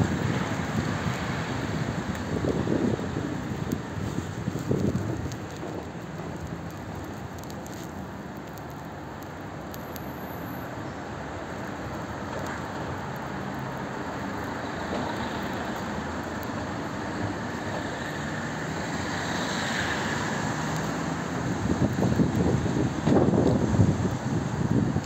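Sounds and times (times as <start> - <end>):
passing vehicles: 0.0 - 25.0.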